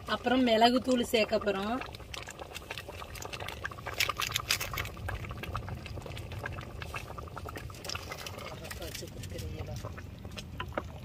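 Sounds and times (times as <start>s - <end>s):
gravy bubbling in a pot: 0.0s - 11.0s.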